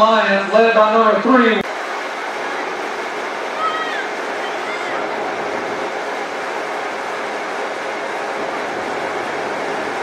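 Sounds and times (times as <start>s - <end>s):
crowd noise: 0.0s - 9.0s.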